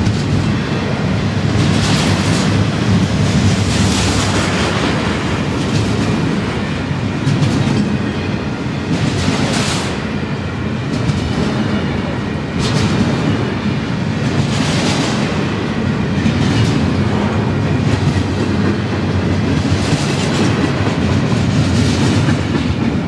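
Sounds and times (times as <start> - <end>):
louder train clatter: 0.0 - 23.0
train rumbling: 0.0 - 23.0
train wheels clacking on rails: 0.0 - 23.0.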